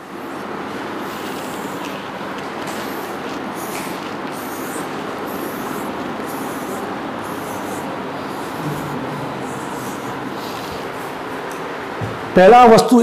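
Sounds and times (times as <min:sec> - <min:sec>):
rushing background noise: 0:00.0 - 0:12.4
chalk scratching on blackboard: 0:00.3 - 0:11.1.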